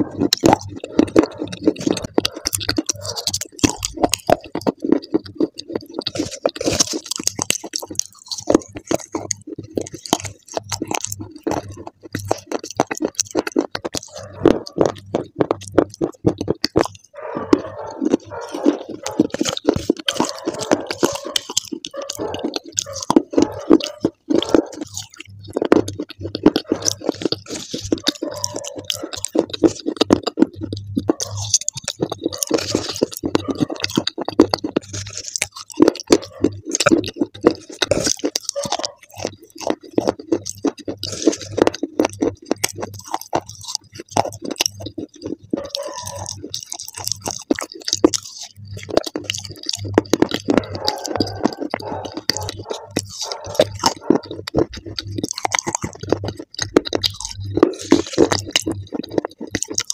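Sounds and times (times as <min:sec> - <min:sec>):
chewing and crunching clay: 0:00.0 - 0:59.9.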